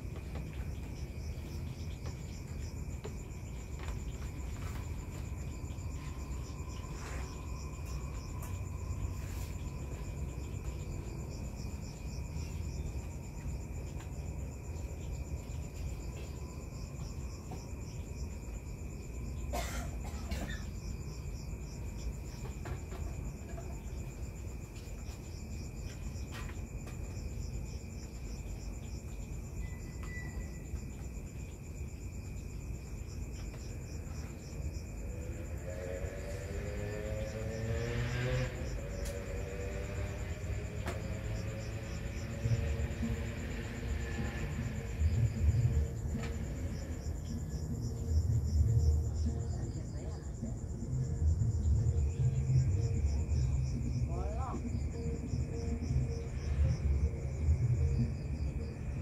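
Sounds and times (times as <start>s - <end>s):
crickets chirping: 0.0s - 59.0s
low continuous insect trill: 0.0s - 59.0s.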